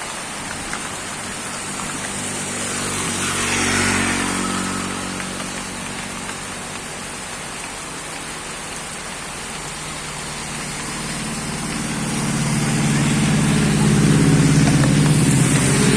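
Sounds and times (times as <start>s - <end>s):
heavy rain: 0.0s - 15.9s
vehicle engine approaching: 0.1s - 15.9s.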